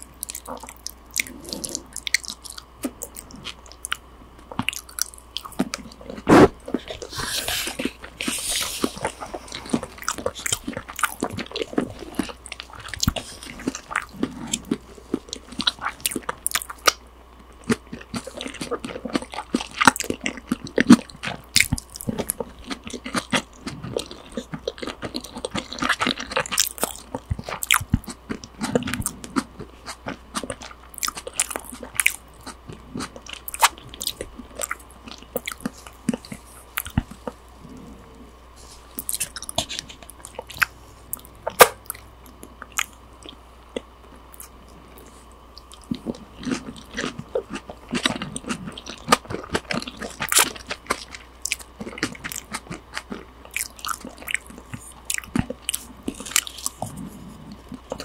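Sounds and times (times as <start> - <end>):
person chewing wet food: 0.0 - 58.0.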